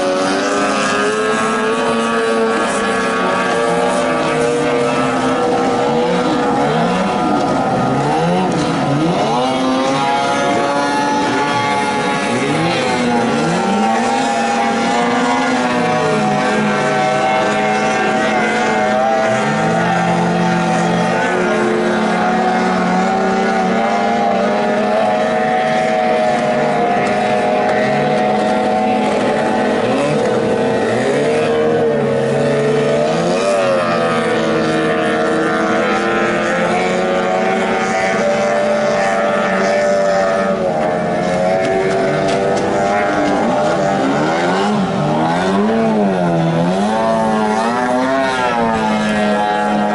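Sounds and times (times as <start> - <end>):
outboard motors at high revs: 0.0 - 49.9.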